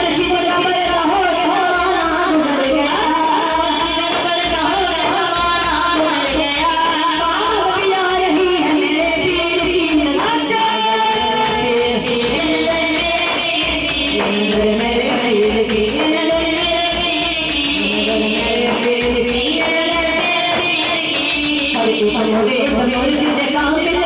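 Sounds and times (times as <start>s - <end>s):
person singing devotional song: 0.0s - 24.0s
steady rhythmic beat: 0.0s - 24.0s.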